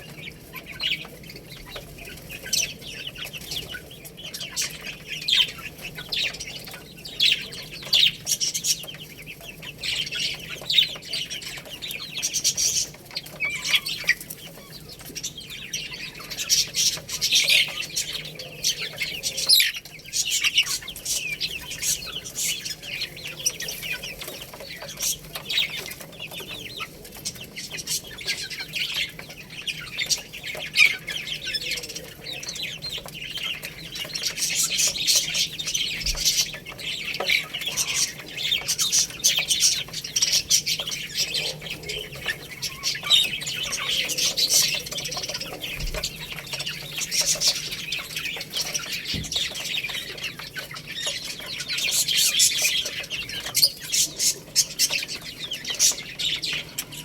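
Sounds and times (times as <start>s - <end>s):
baby chicks peeping: 0.0s - 57.0s.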